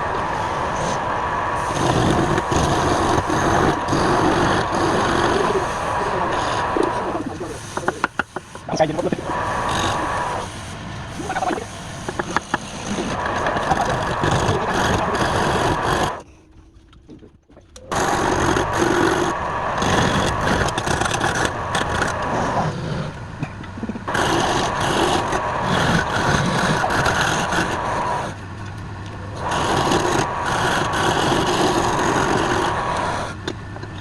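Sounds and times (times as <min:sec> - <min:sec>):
wood lathe running: 0:00.0 - 0:16.2, 0:17.9 - 0:23.1, 0:24.1 - 0:28.4, 0:29.3 - 0:34.0
turning tool scraping wood: 0:01.6 - 0:10.6, 0:11.2 - 0:16.3, 0:17.9 - 0:23.2, 0:24.1 - 0:28.4, 0:29.4 - 0:34.0.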